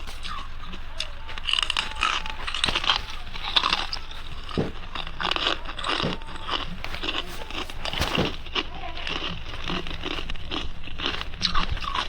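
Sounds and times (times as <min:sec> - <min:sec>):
ice being chewed: 0:00.0 - 0:12.0.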